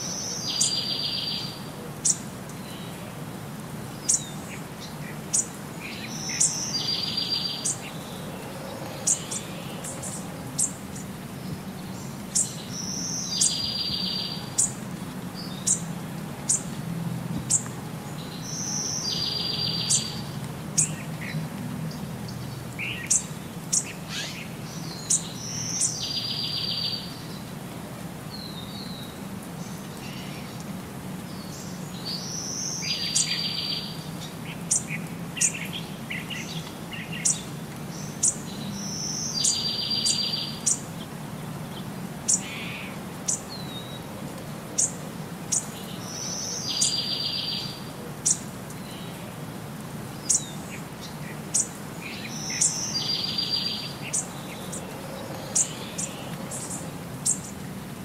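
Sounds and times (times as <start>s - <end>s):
birds chirping: 3.9s - 16.8s, 17.4s - 27.5s, 28.3s - 44.1s, 44.7s - 49.4s, 50.0s - 58.0s.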